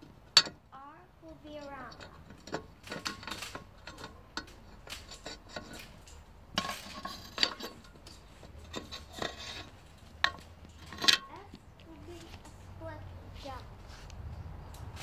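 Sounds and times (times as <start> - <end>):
trampoline springs clinking and creaking: 0.0 - 12.6.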